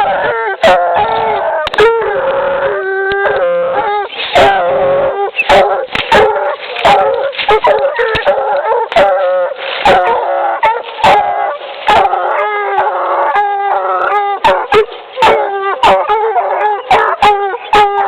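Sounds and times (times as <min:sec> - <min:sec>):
puppies baying and barking: 0:00.0 - 0:18.0.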